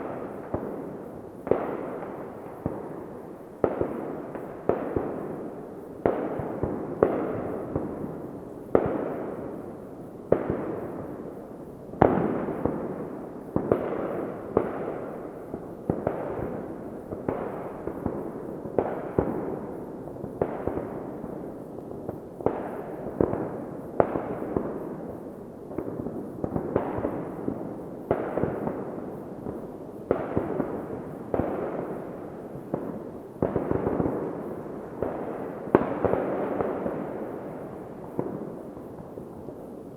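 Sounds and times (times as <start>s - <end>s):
fireworks banging with echo: 0.0s - 11.4s, 12.0s - 39.6s.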